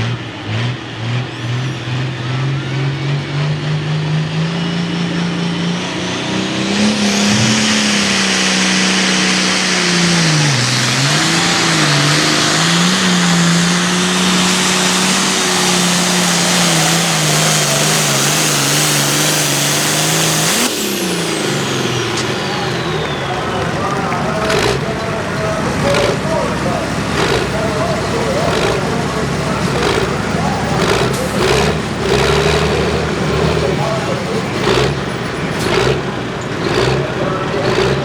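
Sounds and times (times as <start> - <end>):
diesel tractor engine under load: 0.0 - 38.0
high whine winding down: 3.8 - 38.0.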